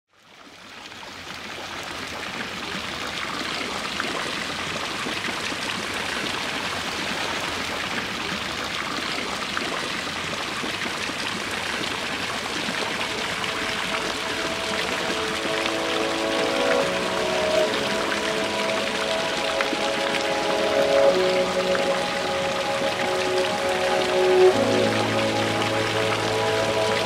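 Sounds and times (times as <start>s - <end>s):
fountain water splashing: 0.2s - 27.0s.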